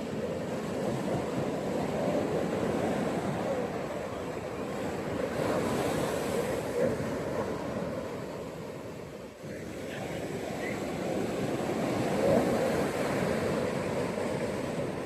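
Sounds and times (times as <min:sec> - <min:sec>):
ocean waves breaking on a beach: 0:00.0 - 0:15.0.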